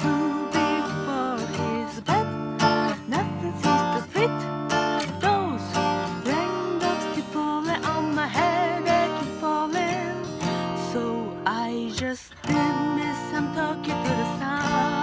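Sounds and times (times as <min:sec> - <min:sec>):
strummed acoustic guitar: 0:00.0 - 0:15.0
woman singing with vibrato: 0:00.0 - 0:15.0.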